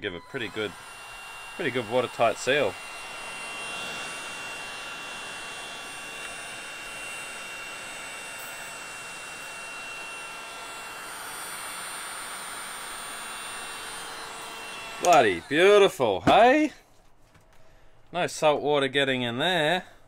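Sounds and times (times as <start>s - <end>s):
heat gun fan whining: 0.0s - 18.6s.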